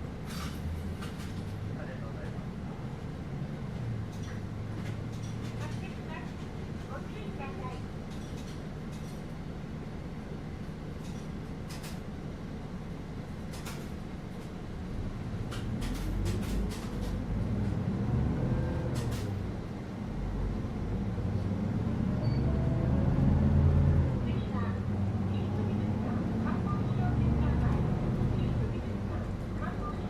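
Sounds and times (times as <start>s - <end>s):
road noise: 0.0s - 9.6s, 13.5s - 30.0s
bus engine rumble: 0.0s - 30.0s.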